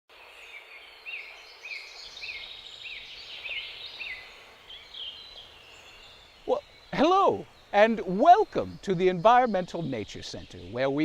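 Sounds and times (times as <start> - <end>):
higher chirping of birds: 0.1 - 11.0.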